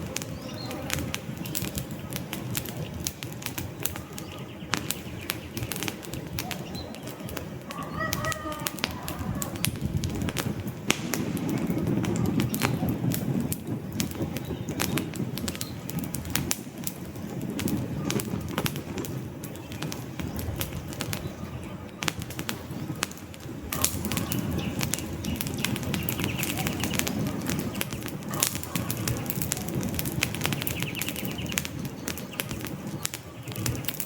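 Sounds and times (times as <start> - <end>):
campfire crackling and popping: 0.0 - 34.0
low rumble of flames: 0.0 - 34.0.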